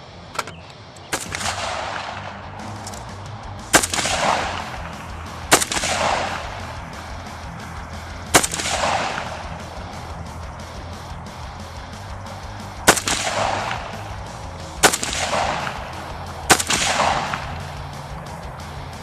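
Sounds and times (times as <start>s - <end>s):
rifle shots with echo: 0.4s - 19.0s.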